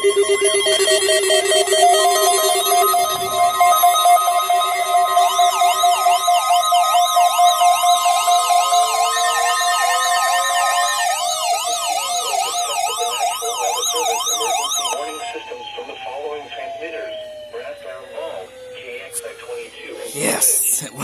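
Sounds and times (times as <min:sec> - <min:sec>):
pulsed beeps: 0:00.0 - 0:21.0
siren-like warble: 0:00.0 - 0:21.0
steady alarm tone: 0:00.0 - 0:21.0.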